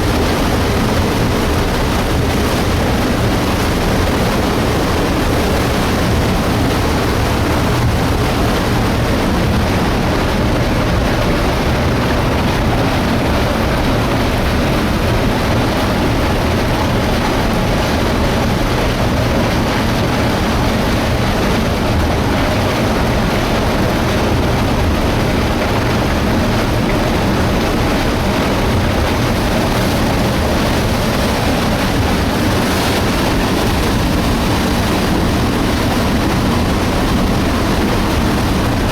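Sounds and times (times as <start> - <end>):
debris flow deep rumble: 0.0 - 38.9.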